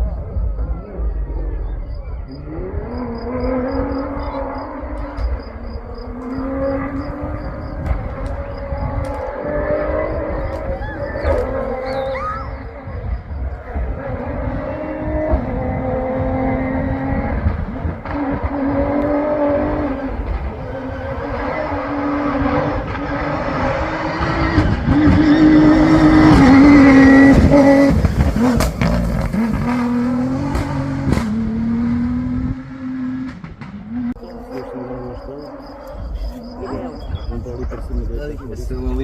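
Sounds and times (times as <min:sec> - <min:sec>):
vehicle engine passing at speed: 0:02.3 - 0:12.0, 0:12.8 - 0:38.3.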